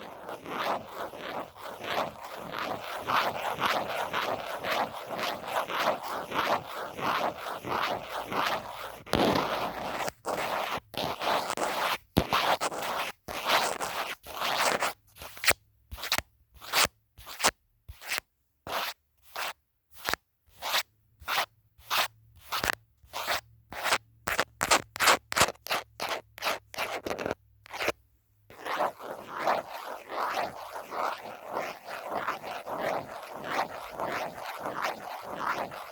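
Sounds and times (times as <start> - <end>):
phone case being scratched: 0.0 - 35.9.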